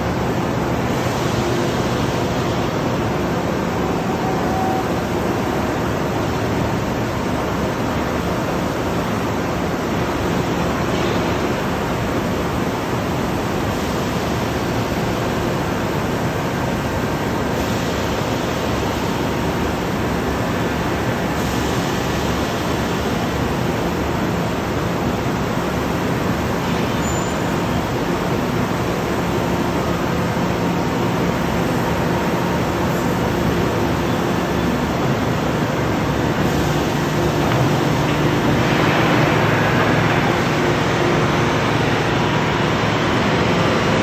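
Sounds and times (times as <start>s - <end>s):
industrial machinery roar: 0.0s - 44.0s.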